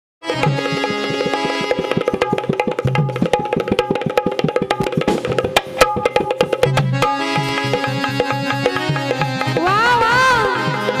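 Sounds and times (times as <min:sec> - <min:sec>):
held melodic notes: 0:00.2 - 0:03.8, 0:05.6 - 0:11.0
drum played with sticks: 0:00.2 - 0:11.0.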